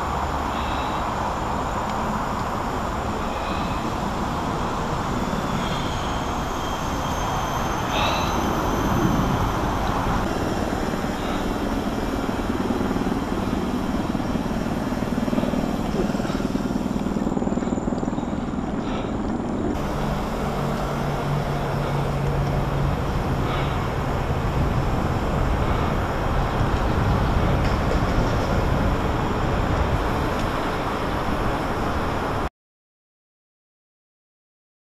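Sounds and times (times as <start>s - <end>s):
bike tyres rolling on pavement: 0.0s - 19.1s, 19.7s - 31.9s
low hum: 0.0s - 32.0s
wind on microphone: 0.0s - 32.5s.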